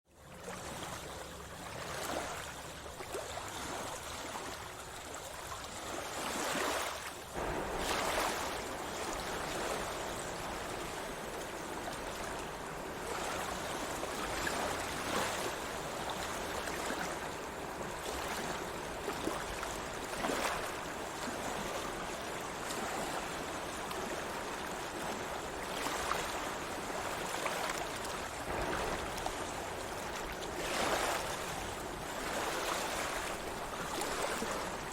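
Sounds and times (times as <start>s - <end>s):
sea waves washing in: 0.2s - 34.9s.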